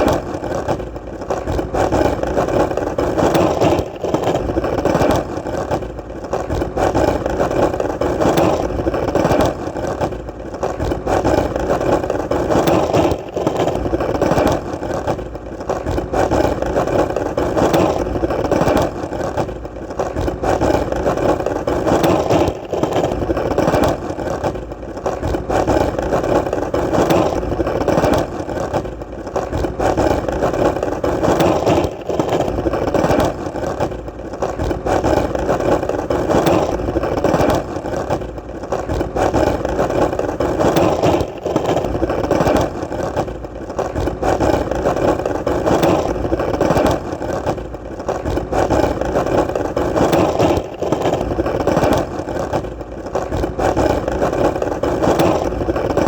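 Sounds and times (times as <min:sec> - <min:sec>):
skateboard wheels rolling: 0:00.0 - 0:56.0.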